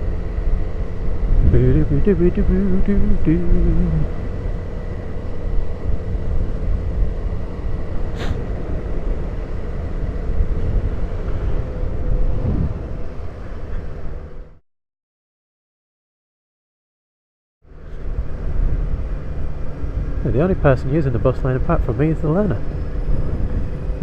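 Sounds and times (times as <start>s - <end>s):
motorcycle engine and wind rumble: 0.0s - 14.6s, 17.7s - 24.0s.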